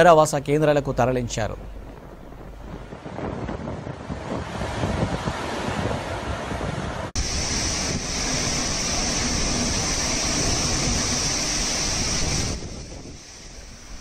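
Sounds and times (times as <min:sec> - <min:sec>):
wind and driving rain: 0:00.0 - 0:14.0.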